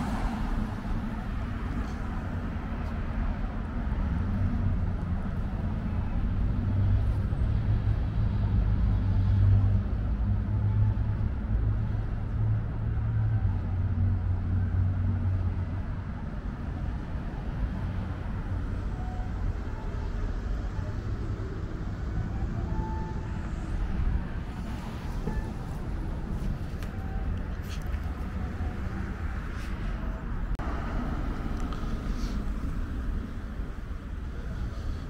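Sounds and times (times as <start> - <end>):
street noise: 0.0 - 35.0.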